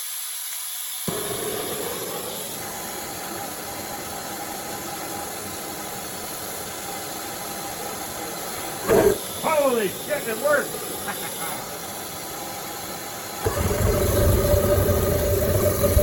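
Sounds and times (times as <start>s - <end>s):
air hiss: 0.0s - 16.0s
burner igniting with a whoosh: 1.1s - 16.0s
rushing flame: 1.1s - 16.0s.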